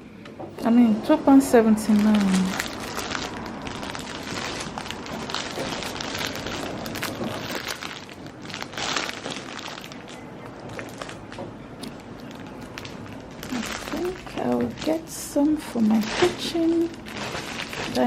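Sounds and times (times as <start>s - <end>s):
low shop background: 0.0s - 18.0s
plastic wrapping rustling: 1.4s - 18.0s.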